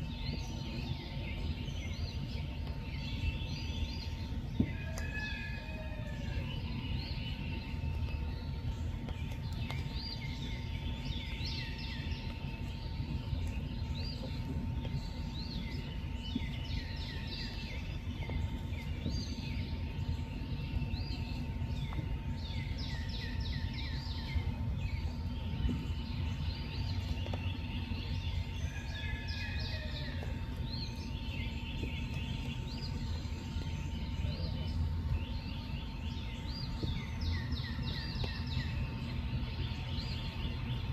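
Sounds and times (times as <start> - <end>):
faint hum: 0.0 - 40.9.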